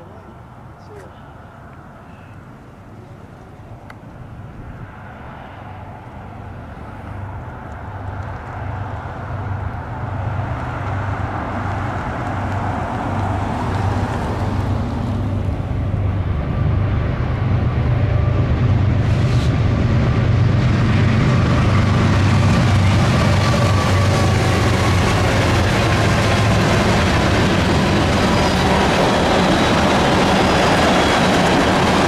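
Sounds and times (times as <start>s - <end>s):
diesel locomotive engine drone: 0.0s - 32.0s
train rolling rumble: 2.8s - 32.0s.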